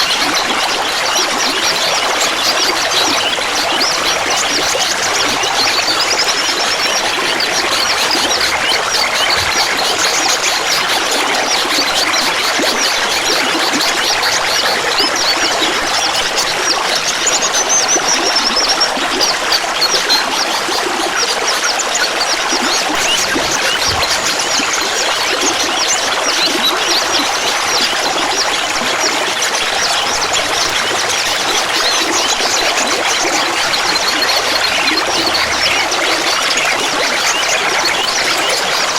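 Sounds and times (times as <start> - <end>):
water babbling and trickling: 0.0 - 38.9.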